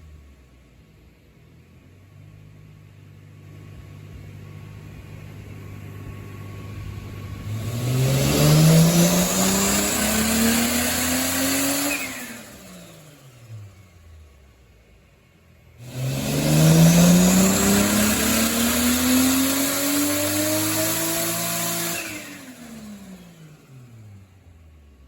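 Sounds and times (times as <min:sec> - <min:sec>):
high turbo whine: 0:00.0 - 0:25.0
car engine revving: 0:01.5 - 0:25.0.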